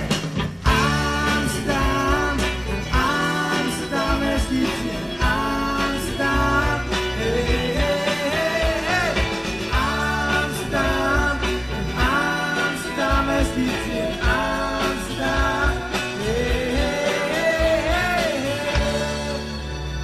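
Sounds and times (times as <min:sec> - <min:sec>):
live rock band playing: 0:00.0 - 0:20.0
person singing: 0:00.0 - 0:20.0.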